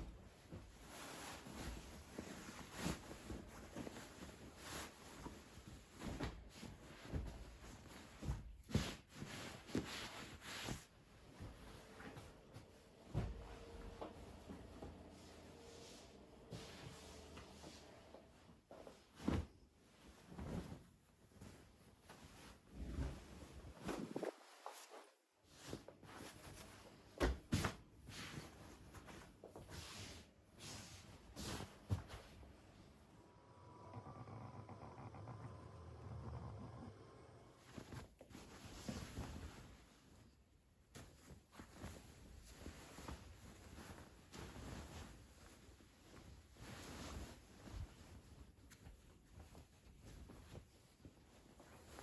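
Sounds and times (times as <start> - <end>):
rustling of things moved: 0.0 - 33.1, 37.4 - 52.0.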